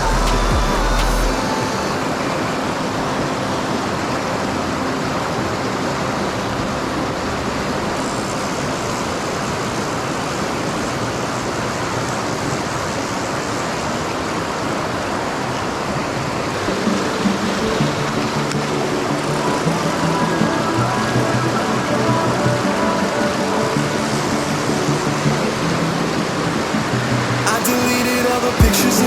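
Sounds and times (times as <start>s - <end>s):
mountain stream rushing: 0.0s - 29.0s.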